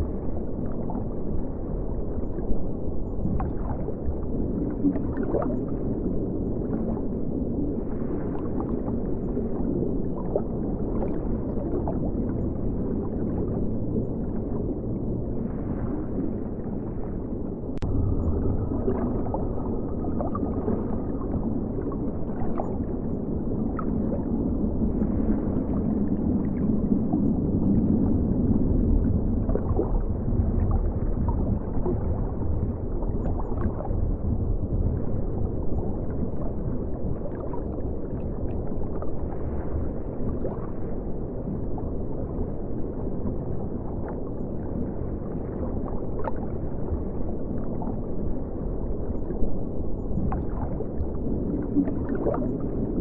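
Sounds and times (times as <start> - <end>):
muffled river water flowing: 0.0 - 53.0.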